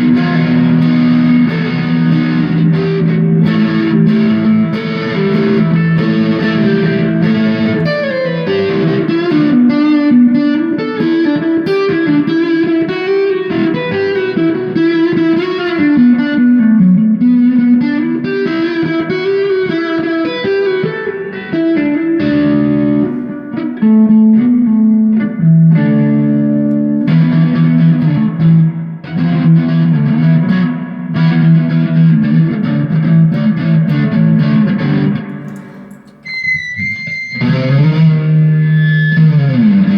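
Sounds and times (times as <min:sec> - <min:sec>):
distorted electric guitar lead: 0:00.0 - 0:39.9.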